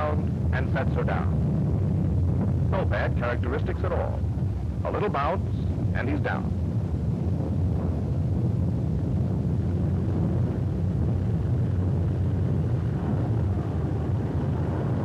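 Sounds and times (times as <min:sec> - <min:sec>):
aircraft engine idling drone: 0:00.0 - 0:15.0.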